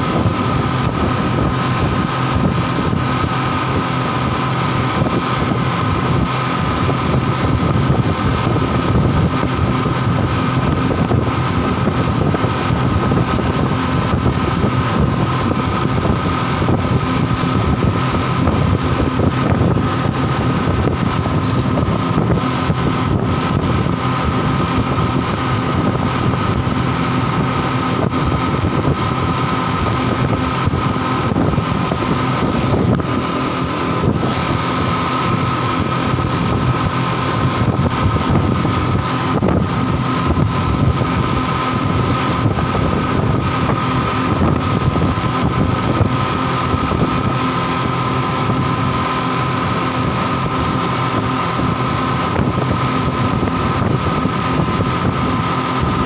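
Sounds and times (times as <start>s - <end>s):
speedboat engine drone: 0.0s - 56.0s
wind and water rushing: 0.0s - 56.0s.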